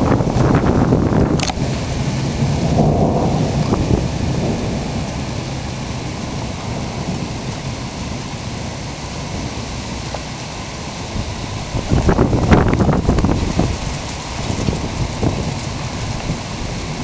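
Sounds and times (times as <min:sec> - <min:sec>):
steady rushing noise: 0:00.0 - 0:17.0
thunder rumble: 0:00.0 - 0:17.0.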